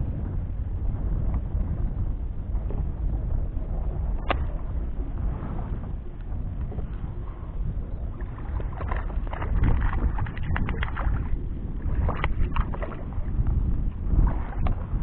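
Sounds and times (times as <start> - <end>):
water lapping around kayak: 0.0 - 15.0
wind buffeting microphone: 0.0 - 15.0.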